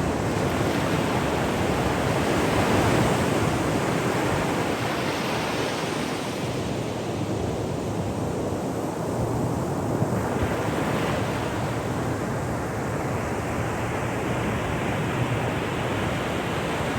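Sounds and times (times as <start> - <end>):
ocean surf washing on shore: 0.0 - 16.9.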